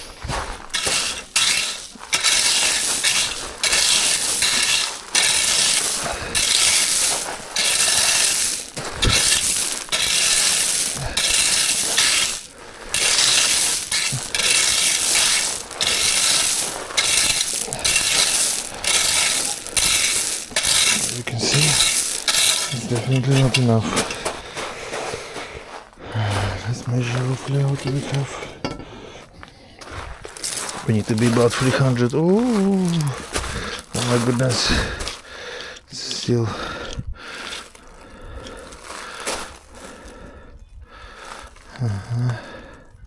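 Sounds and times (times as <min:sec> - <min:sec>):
gravel being spread by hand: 0:00.0 - 0:40.3, 0:41.0 - 0:42.9.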